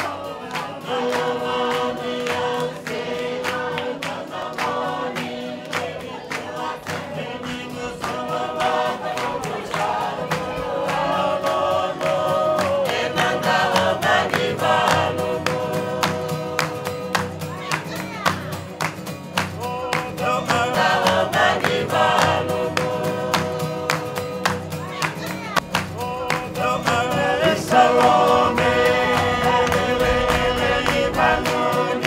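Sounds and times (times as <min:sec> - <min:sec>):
group singing in harmony: 0:00.0 - 0:18.3, 0:19.6 - 0:25.2, 0:25.9 - 0:32.0
strummed acoustic guitar: 0:00.0 - 0:32.0.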